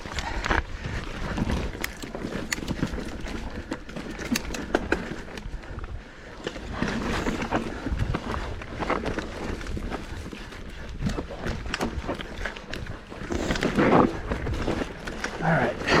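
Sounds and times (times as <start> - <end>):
bike clicks and knocks: 0.0 - 15.4.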